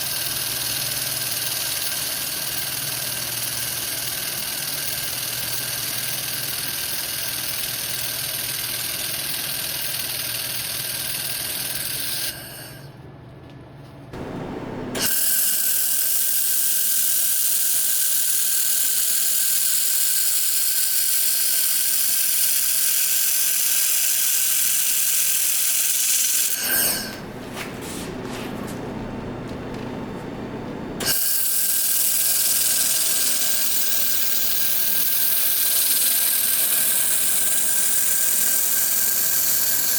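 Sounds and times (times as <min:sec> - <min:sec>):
laser welder hissing sizzle: 0:00.0 - 0:12.9, 0:15.0 - 0:27.2, 0:31.0 - 0:39.9.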